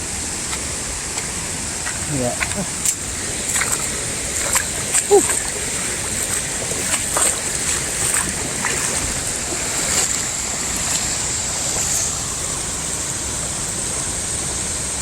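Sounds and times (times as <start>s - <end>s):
waterfall rushing: 0.3s - 14.5s.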